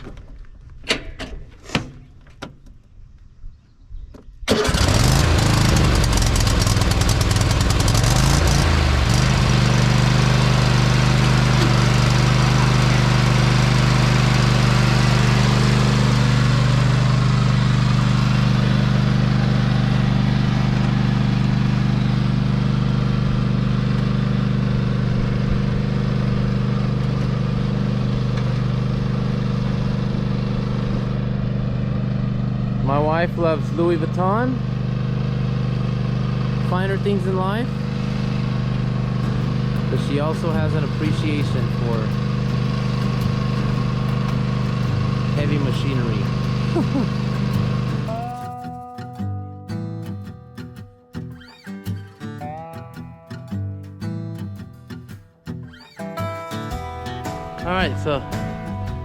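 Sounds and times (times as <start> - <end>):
lawn mower engine revving: 4.5 - 48.7, 55.7 - 59.0.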